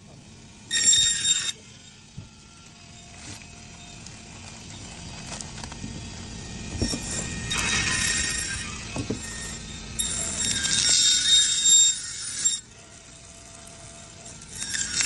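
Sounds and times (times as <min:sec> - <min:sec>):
band saw humming: 0:00.0 - 0:15.0
saw blade screeching: 0:00.6 - 0:04.0, 0:06.2 - 0:15.0.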